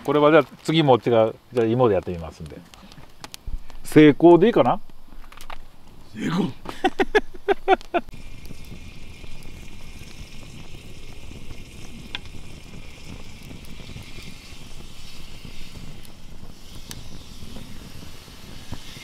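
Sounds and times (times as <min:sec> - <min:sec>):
fire pop: 0:00.0 - 0:19.0
wood fire hiss and crackle: 0:00.0 - 0:19.0.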